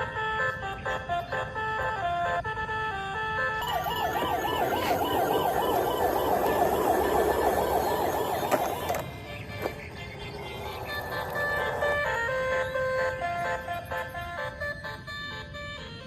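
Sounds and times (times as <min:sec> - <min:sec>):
toy siren warbling: 0:00.0 - 0:16.0.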